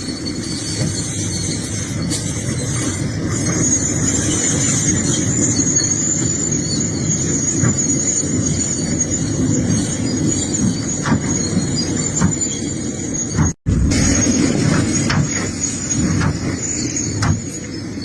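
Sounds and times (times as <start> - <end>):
high-pitched squeal: 0.0 - 18.0.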